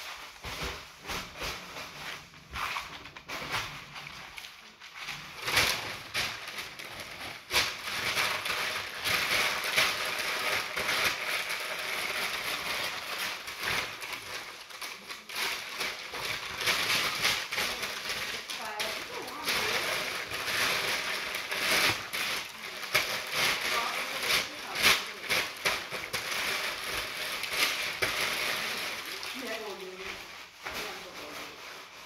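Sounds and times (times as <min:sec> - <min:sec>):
paper crumpling: 0:00.0 - 0:32.0.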